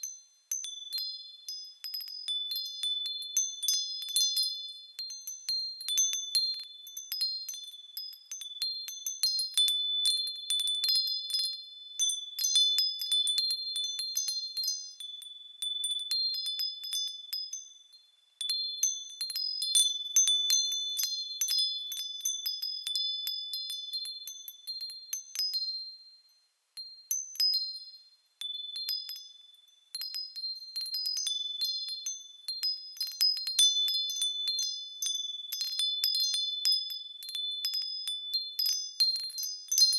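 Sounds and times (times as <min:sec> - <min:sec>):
small metal bells jingling: 0:00.0 - 0:39.9.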